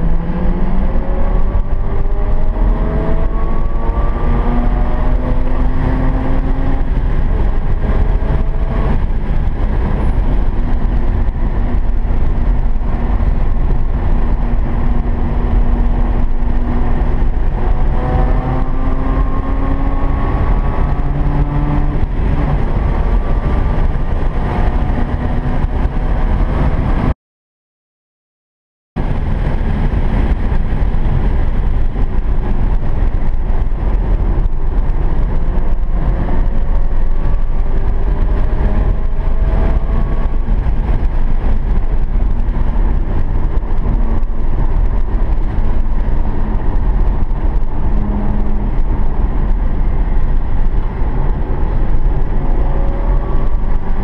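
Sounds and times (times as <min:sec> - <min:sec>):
rotary engine under hard throttle: 0:00.0 - 0:27.1, 0:29.0 - 0:54.0
road and wind rumble: 0:00.0 - 0:27.2, 0:29.0 - 0:54.0.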